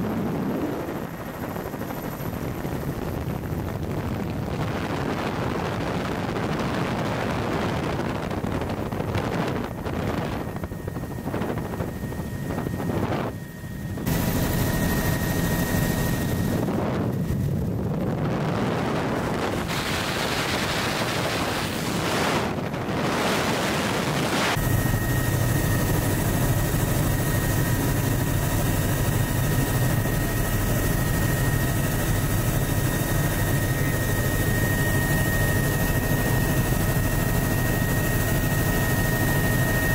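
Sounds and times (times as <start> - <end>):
helicopter engine and rotor noise: 0.0 - 39.9
steady whine: 0.0 - 39.9
wind rushing over microphone: 0.0 - 39.9.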